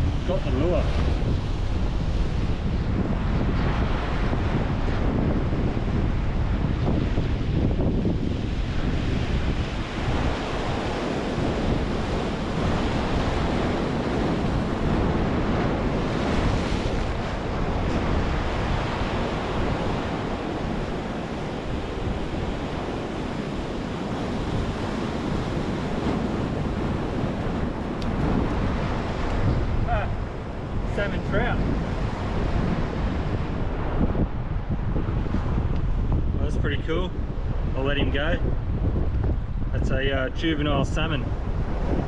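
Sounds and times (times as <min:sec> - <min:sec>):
ocean surf washing ashore: 0:00.0 - 0:42.0
wind buffeting microphone: 0:00.0 - 0:42.0.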